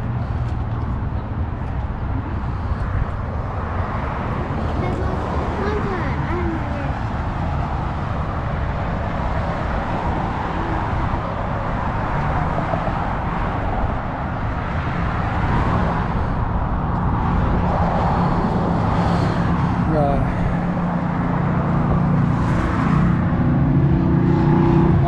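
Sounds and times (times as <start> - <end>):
cars driving by: 0.0 - 25.0.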